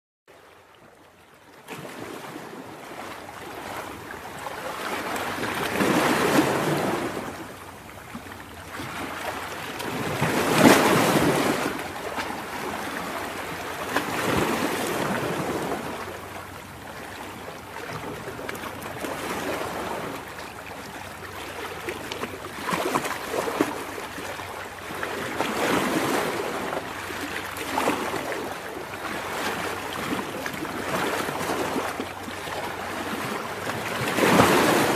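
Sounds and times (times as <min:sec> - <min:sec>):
waves breaking on shore: 0:00.3 - 0:34.9.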